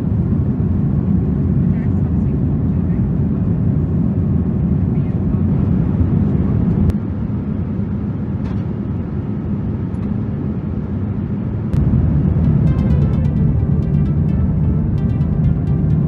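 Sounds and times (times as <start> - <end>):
airliner cabin engine noise: 0.0 - 16.0.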